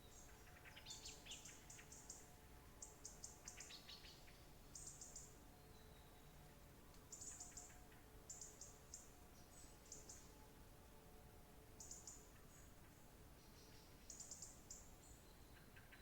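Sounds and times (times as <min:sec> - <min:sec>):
faint birdsong chirps: 0:00.0 - 0:10.6, 0:11.7 - 0:16.0
soft steady hiss: 0:00.0 - 0:16.0.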